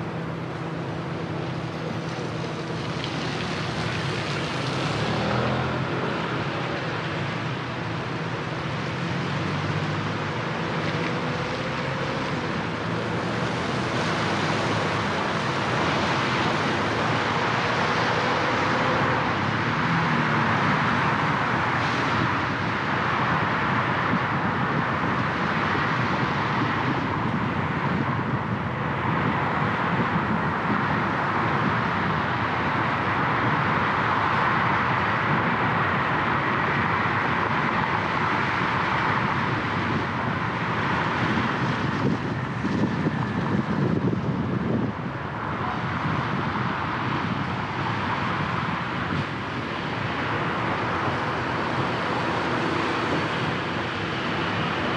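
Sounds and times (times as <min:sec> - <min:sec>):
tyres hissing on wet road: 0:00.0 - 0:28.3, 0:29.0 - 0:54.9.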